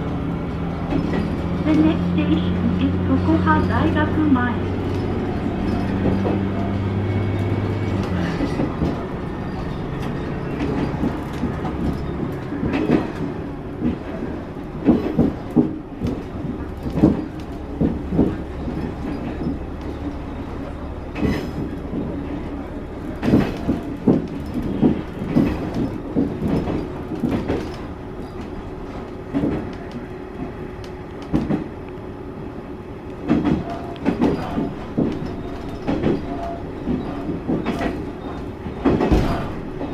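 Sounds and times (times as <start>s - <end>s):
wheels clacking over rail joints: 0.0s - 32.1s, 33.0s - 39.9s
railcar engine hum: 0.0s - 39.9s.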